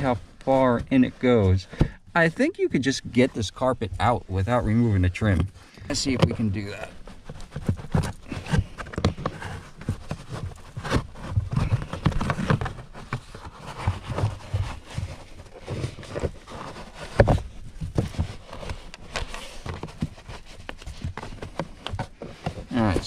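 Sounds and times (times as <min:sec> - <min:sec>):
dull thumps: 0:00.0 - 0:02.3, 0:03.9 - 0:23.0
carpet rustling and scraping: 0:00.0 - 0:23.0.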